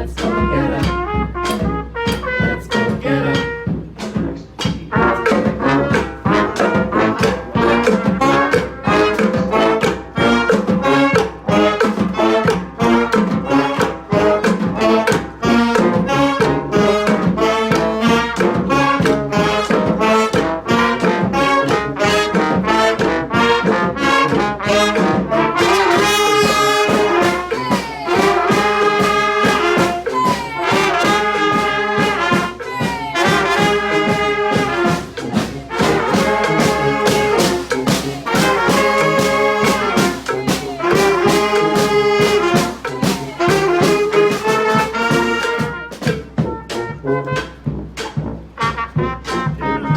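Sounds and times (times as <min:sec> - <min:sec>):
brass band playing: 0:00.0 - 0:49.9.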